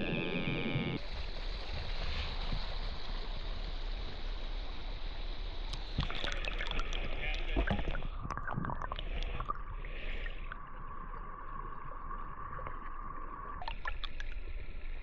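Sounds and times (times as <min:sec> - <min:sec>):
creek water flowing: 0:01.0 - 0:15.0.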